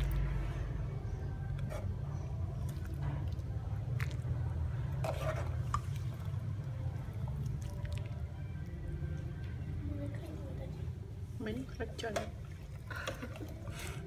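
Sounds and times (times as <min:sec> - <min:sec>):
spoon stirring broth: 0:00.0 - 0:09.8, 0:11.9 - 0:14.0.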